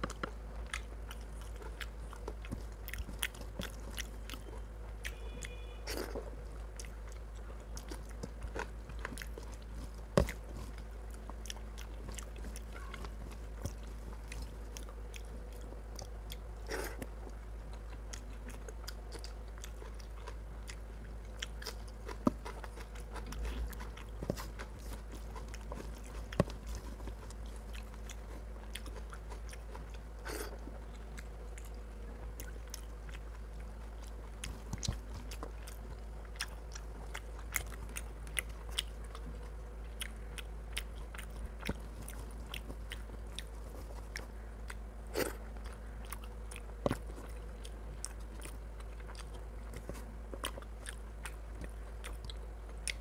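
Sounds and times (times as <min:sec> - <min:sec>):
wet chewing and mouth smacking: 0:00.0 - 0:53.0.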